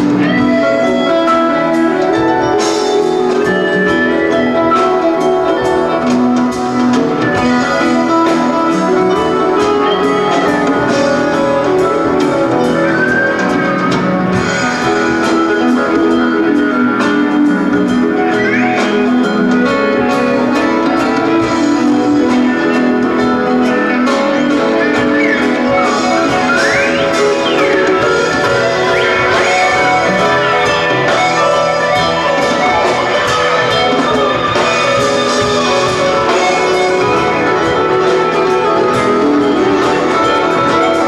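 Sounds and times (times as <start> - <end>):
bass guitar: 0.0 - 41.0
drums: 0.0 - 41.0
electric guitar lines: 0.0 - 41.0
keyboards: 0.0 - 41.0.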